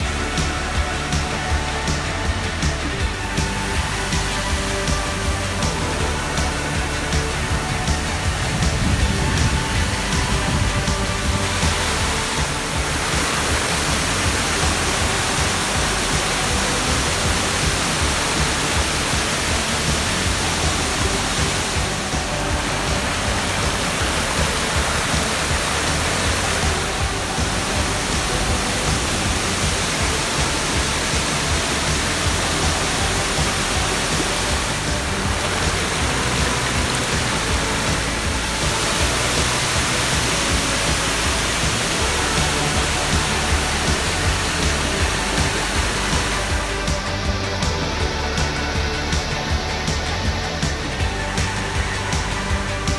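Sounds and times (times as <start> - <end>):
background music: 0.0 - 52.9
waterfall rushing: 0.0 - 52.9.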